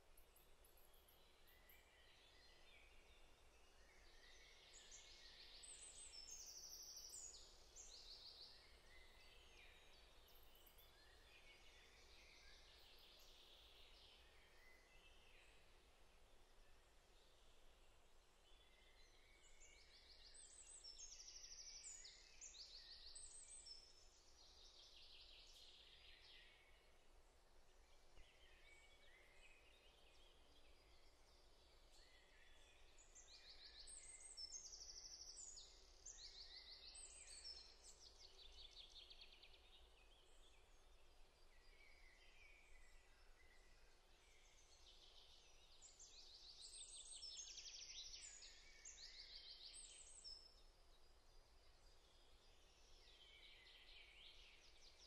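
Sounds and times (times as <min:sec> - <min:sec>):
small birds singing trills: 0:00.0 - 0:55.0.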